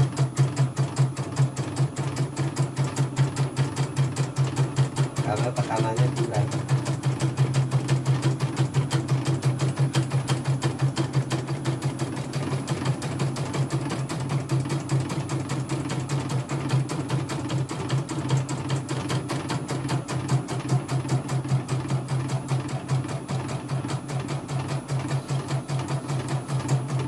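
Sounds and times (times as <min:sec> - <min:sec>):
embroidery machine stitching: 0:00.0 - 0:27.0.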